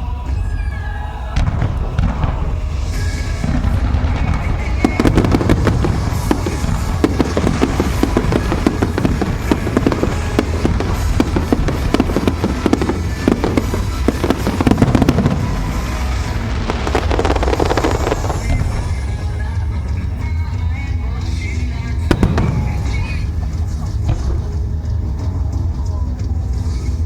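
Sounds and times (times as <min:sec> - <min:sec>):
low rumble: 0:00.0 - 0:27.0
fireworks bangs and crackles: 0:00.2 - 0:27.0.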